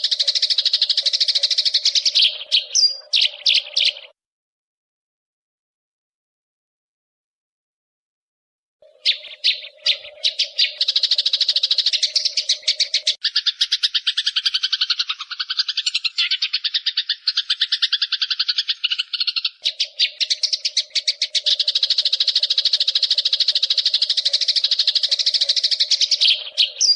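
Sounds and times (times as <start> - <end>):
sparrows chirping harshly: 0.0 - 4.2, 8.8 - 26.9.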